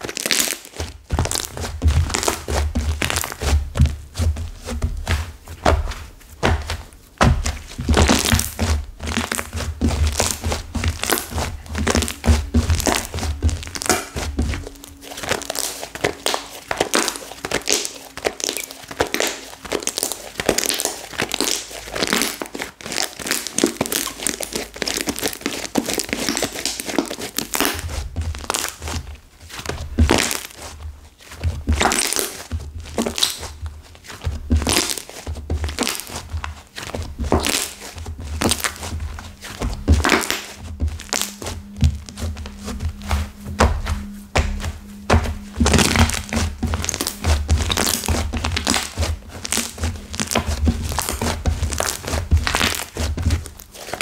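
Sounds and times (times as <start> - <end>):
slime crackling and crunching: 0.0 - 54.0.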